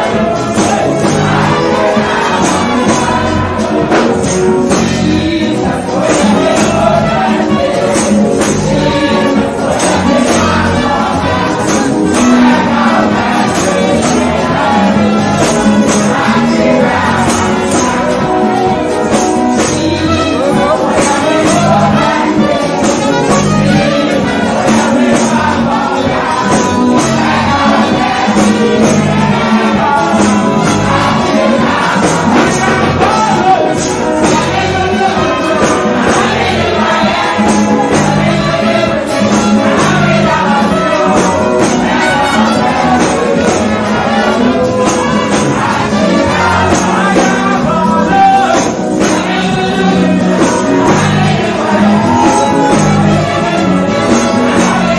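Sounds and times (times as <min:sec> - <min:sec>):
gospel music through loudspeakers: 0:00.0 - 0:54.9.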